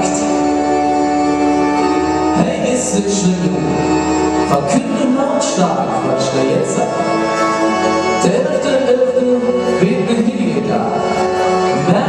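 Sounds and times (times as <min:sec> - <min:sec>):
keyboards: 0:00.0 - 0:12.0.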